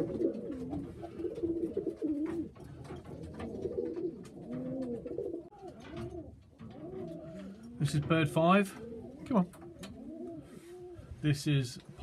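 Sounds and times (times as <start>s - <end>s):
pigeons cooing: 0.0s - 11.2s.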